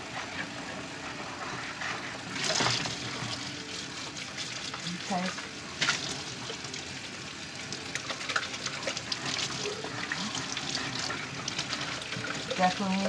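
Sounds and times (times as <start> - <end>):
liquid swishing: 0.0 - 7.0, 7.6 - 13.0.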